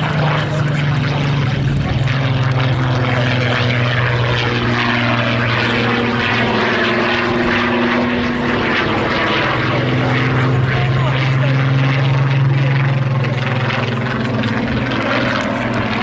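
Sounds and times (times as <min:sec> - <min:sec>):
aircraft engine and propeller overhead: 0:00.0 - 0:16.0.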